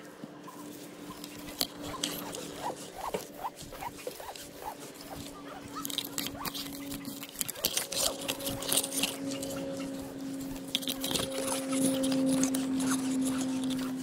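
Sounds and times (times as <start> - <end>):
steady low hum: 0.0 - 14.0
leaves and twigs rustling: 0.4 - 14.0.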